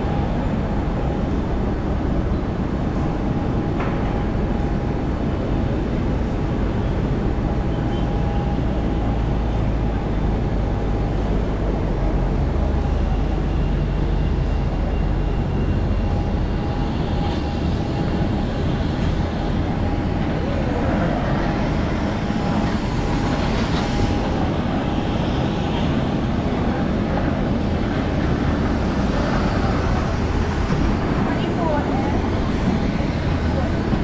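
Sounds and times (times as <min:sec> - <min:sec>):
moving vehicle rumble: 0:03.9 - 0:34.0.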